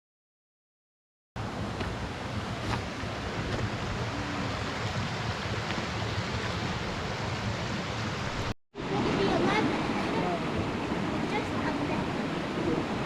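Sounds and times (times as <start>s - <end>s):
mountain stream rushing: 1.4s - 13.0s.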